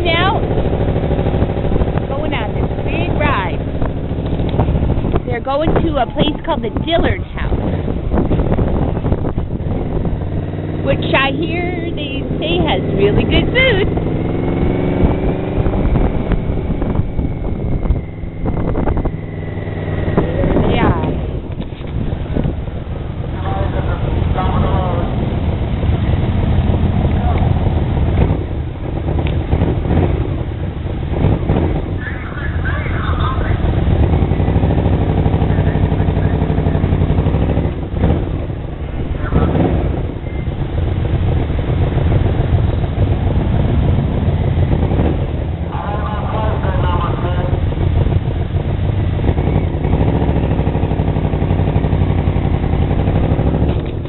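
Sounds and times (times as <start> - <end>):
motorcycle engine running: 0.0 - 54.0
road noise: 0.0 - 54.0
wind buffeting microphone: 0.0 - 54.0.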